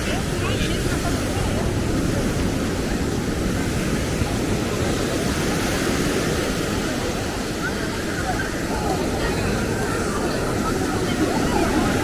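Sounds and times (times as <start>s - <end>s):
steady outdoor rushing noise: 0.0s - 12.0s.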